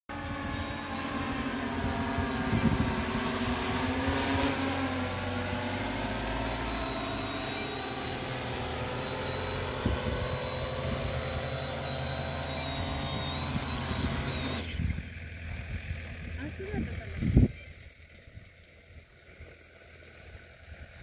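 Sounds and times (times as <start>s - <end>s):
drone motors and propellers buzzing: 0.1s - 21.0s.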